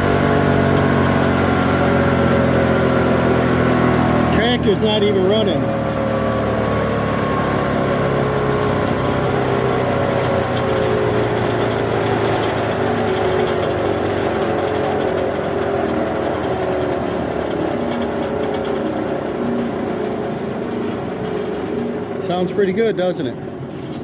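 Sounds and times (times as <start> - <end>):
flywheel whirring as it coasts down: 0.0 - 24.0.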